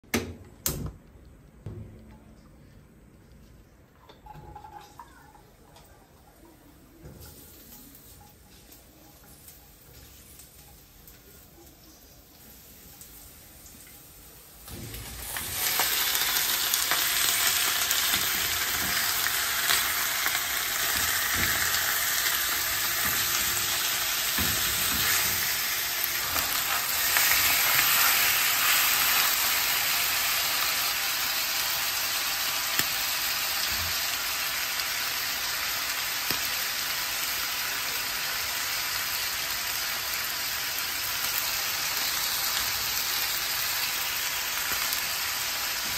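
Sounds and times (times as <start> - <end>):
chicken sizzling in oil: 7.0 - 45.9.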